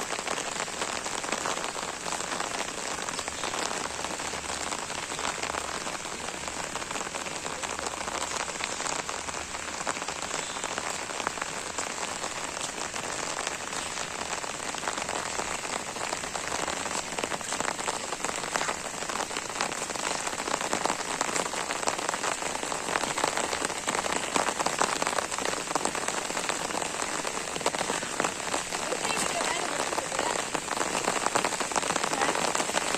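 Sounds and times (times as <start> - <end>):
steady rain pattering: 0.0 - 32.9.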